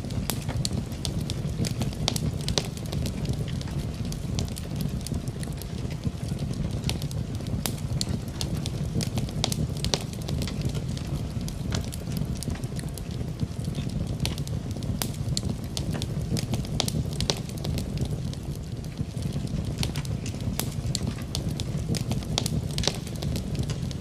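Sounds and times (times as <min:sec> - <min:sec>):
rain: 0:00.0 - 0:24.0
wood fire crackling and popping: 0:00.0 - 0:24.0.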